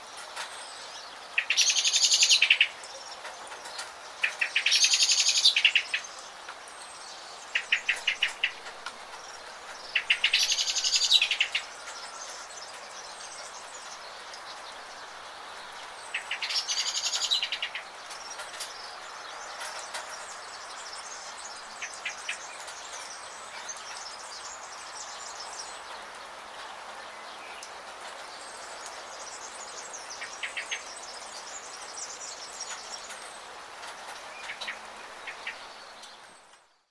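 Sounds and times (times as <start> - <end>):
rain falling: 0.0 - 36.8
songbirds chirping: 0.0 - 36.9.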